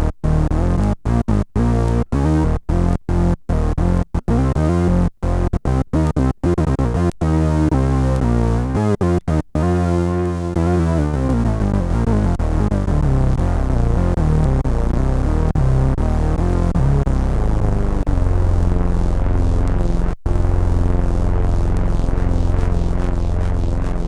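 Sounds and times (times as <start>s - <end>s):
synthesizer bass notes: 0.0s - 24.0s.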